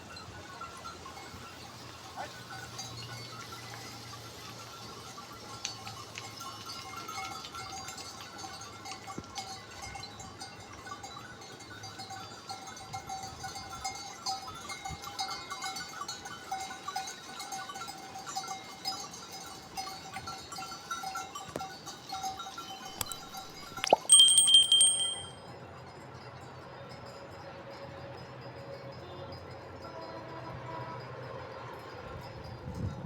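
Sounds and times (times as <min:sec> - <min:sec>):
sheep bells clinking: 0:00.0 - 0:33.0.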